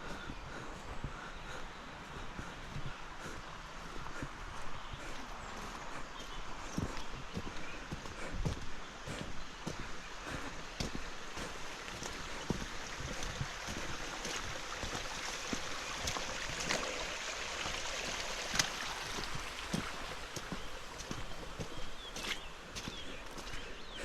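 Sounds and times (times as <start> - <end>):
rushing river water: 0.0 - 24.0.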